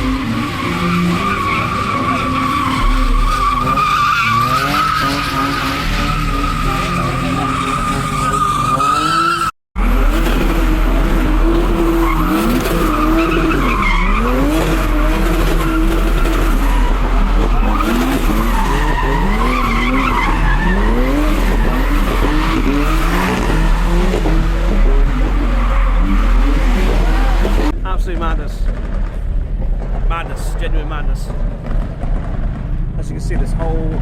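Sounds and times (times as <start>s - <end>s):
tyres squealing: 0.0s - 27.8s
car engine revving: 0.0s - 34.0s.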